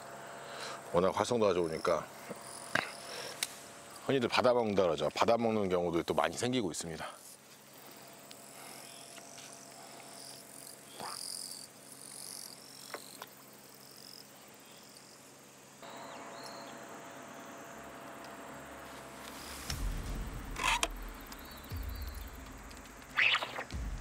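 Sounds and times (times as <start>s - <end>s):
insects chirping in trills: 0.0s - 24.0s.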